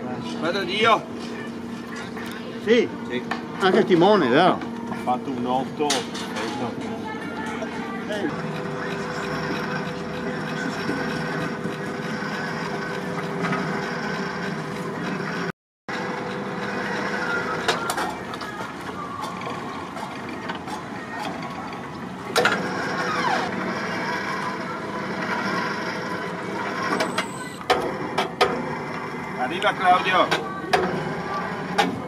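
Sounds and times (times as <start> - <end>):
crane hoist humming: 0.0 - 32.0.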